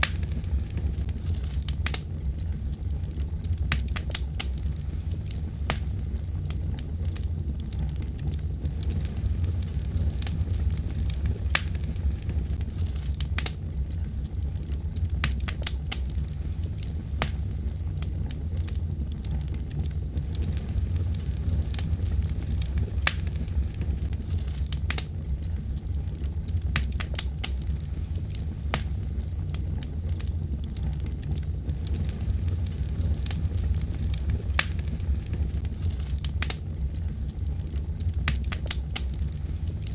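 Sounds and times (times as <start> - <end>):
fire crackles and pops: 0.0 - 39.9
wood fire rumble: 0.0 - 39.9.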